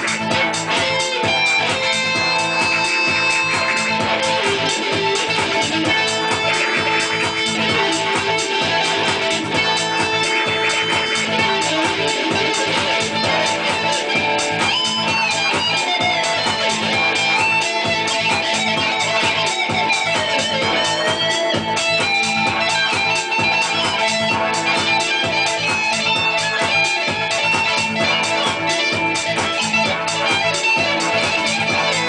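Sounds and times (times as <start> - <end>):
rapidly picked guitar: 0.0 - 32.0.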